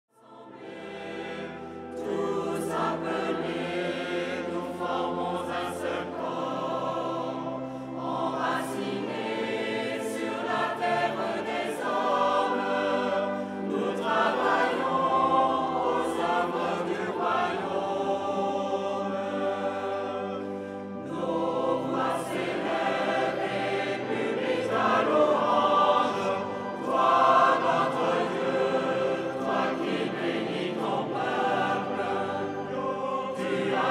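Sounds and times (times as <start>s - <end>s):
mixed choir singing: 0.2s - 33.9s.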